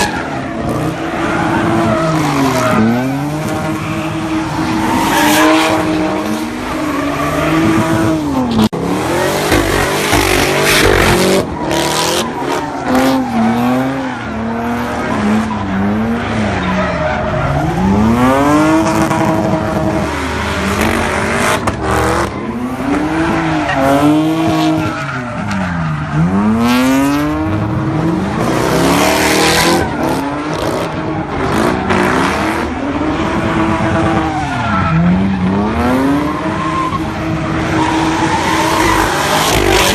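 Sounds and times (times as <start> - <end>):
car engine revving: 0.0 - 39.9
tyres squealing and skidding: 0.0 - 39.9.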